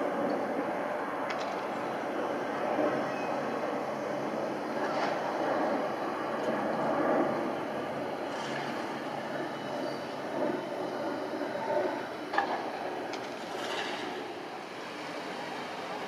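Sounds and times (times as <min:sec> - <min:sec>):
distant jet engine rumble: 0:00.0 - 0:16.0.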